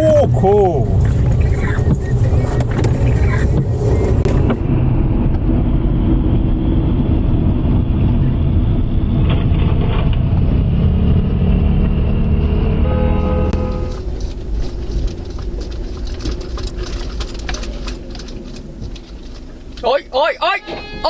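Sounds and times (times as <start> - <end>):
car engine and tyre noise: 0.0 - 21.0.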